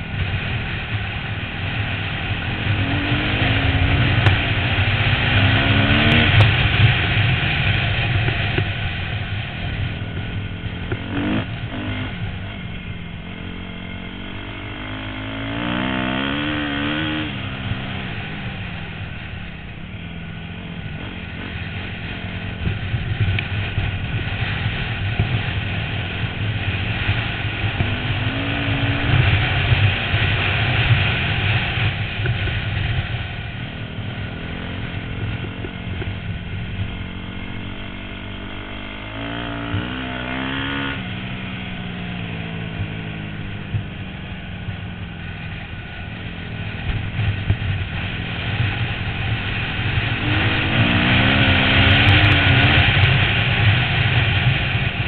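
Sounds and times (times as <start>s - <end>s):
dirt bike engine revving: 0.9s - 8.5s, 9.6s - 32.5s, 33.4s - 44.9s, 47.9s - 55.0s.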